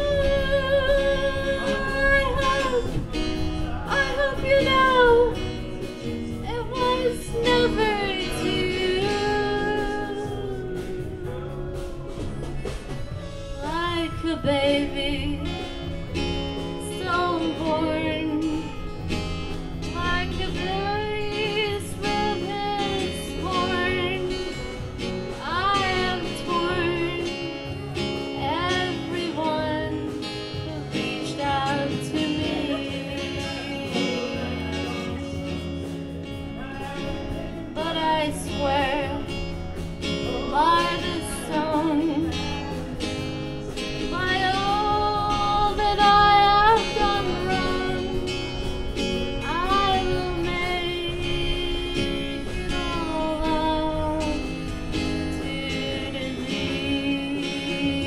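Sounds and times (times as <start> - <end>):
strummed acoustic guitar: 0.0 - 58.0
woman singing: 0.0 - 58.0.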